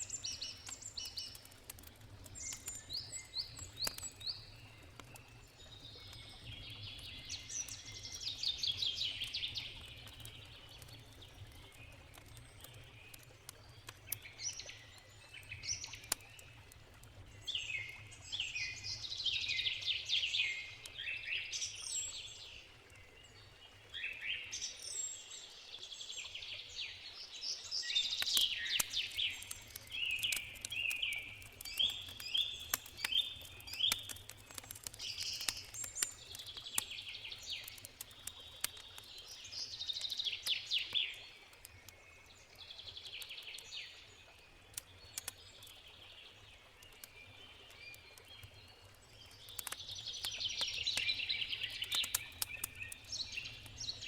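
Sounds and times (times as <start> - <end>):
campfire crackling: 0.0 - 26.3, 26.9 - 54.0
songbirds singing: 0.0 - 54.0.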